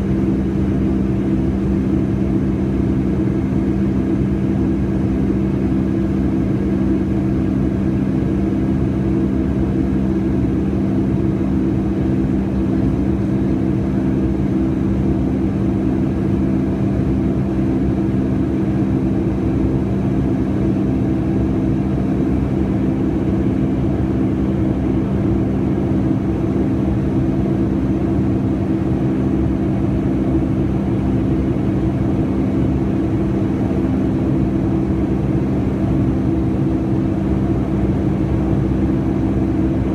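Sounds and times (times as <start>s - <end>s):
engine and airflow rush: 0.0s - 39.9s.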